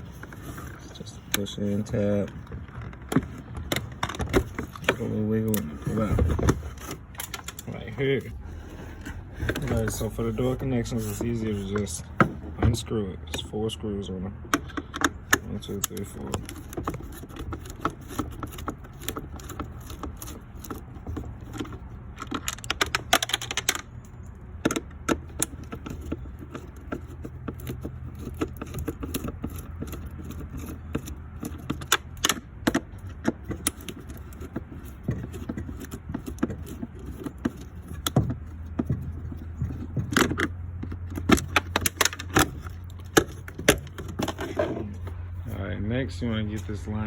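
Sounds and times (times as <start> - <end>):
clicks and rattles of parts: 0.0 - 13.6, 14.4 - 45.5
steady low hum: 0.0 - 47.0.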